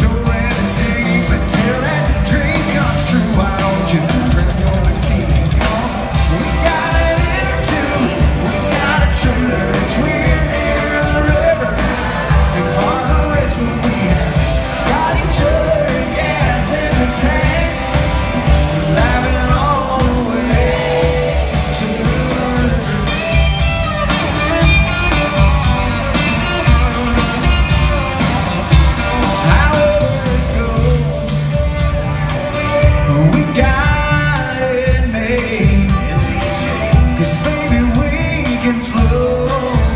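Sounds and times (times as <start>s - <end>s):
drums beating: 0.0s - 39.9s
electric guitar: 0.0s - 39.9s
live country band: 0.0s - 39.9s.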